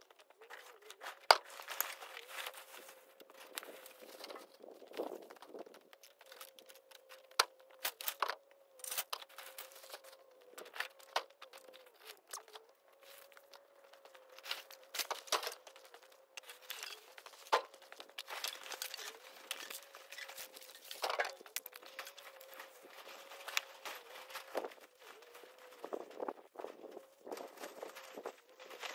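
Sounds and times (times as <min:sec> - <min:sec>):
plastic sheeting crinkling: 0:00.1 - 0:28.9.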